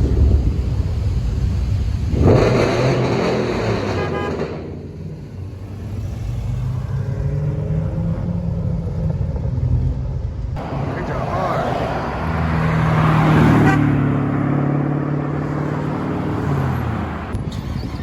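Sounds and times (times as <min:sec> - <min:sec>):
car engine revving and rumbling: 0:00.0 - 0:18.0.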